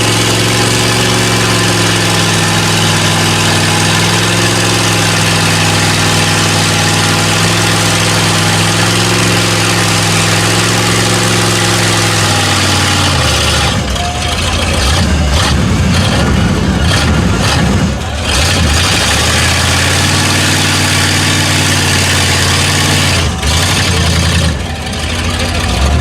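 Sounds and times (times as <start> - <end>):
truck engine running steadily: 0.0 - 26.0.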